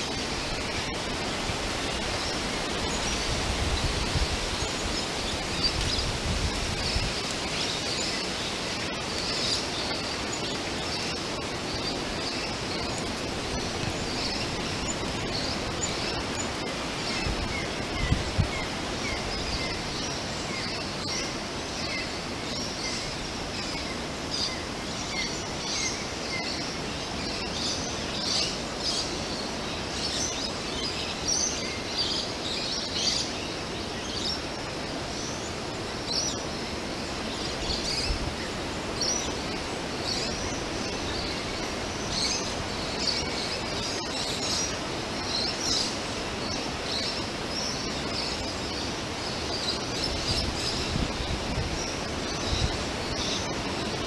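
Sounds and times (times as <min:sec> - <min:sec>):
outdoor hiss: 0:00.0 - 0:54.0
small birds chirping: 0:00.0 - 0:54.0.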